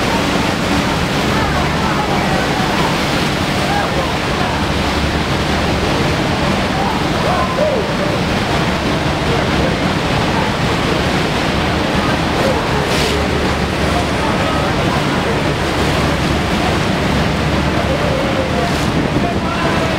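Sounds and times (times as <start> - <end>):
river water rushing through rapids: 0.0 - 19.9.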